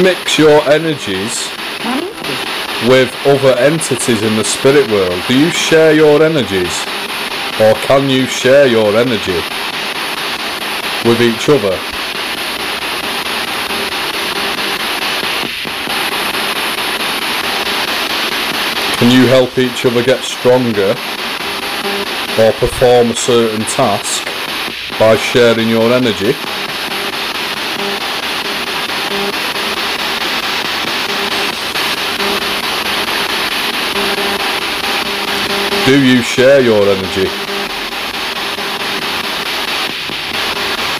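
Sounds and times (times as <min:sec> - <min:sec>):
radio static hiss with clicks: 0:00.0 - 0:40.9
snatches of broadcast sound: 0:00.0 - 0:40.9.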